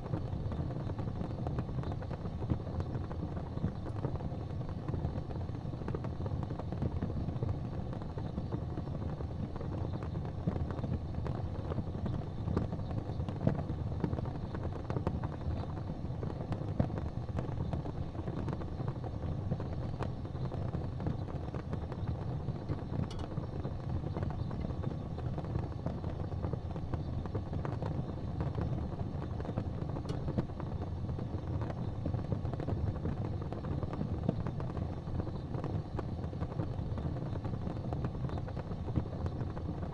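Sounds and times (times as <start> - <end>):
fire crackles: 0.0 - 39.9
fire flames rushing: 0.0 - 39.9.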